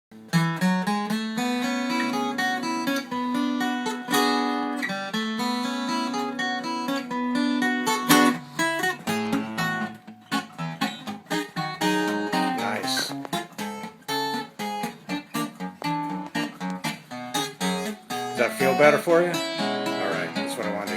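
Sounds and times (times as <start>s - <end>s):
acoustic guitar strumming: 0.2s - 20.9s.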